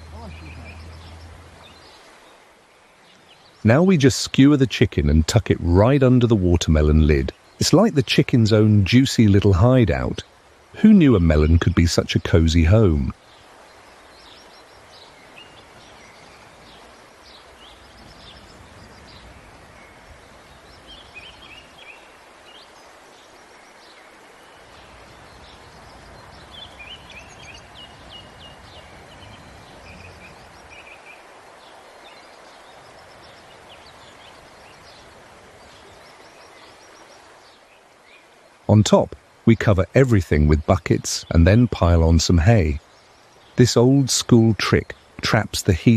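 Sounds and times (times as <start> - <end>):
songbirds chirping: 0.0 - 45.9
steady background hiss: 0.0 - 45.9.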